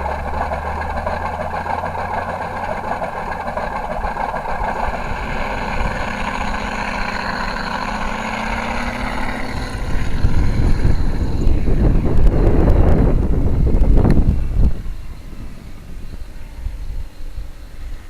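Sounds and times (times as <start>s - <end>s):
simulated aircraft engine running: 0.0s - 18.0s.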